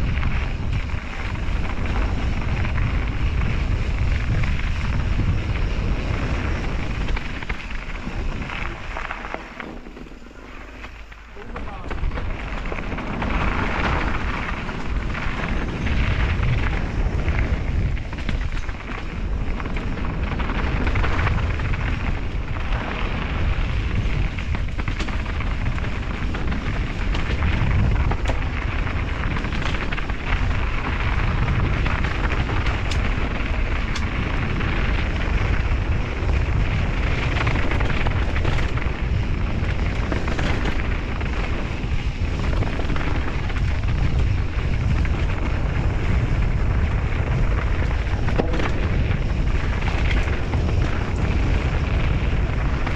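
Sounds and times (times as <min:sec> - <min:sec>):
bike clicks and rattles: 0:00.0 - 0:52.9
low rumble of tyres on trail: 0:00.0 - 0:52.9
wind buffeting microphone: 0:00.0 - 0:52.9.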